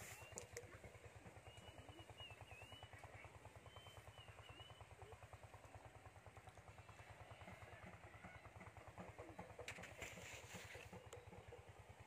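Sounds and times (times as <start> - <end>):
distant engine throbbing: 0.0 - 12.0.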